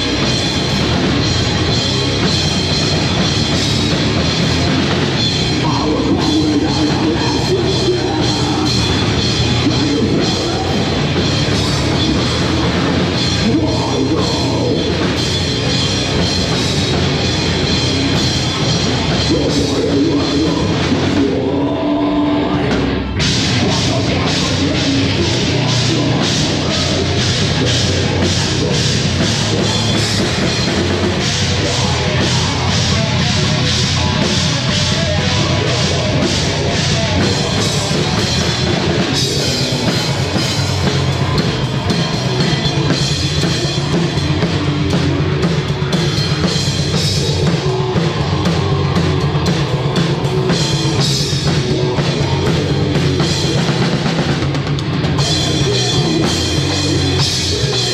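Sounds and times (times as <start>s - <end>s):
drum and cymbal hits: 0.0s - 21.5s, 22.6s - 57.9s
heavy rock band playing: 0.0s - 57.9s.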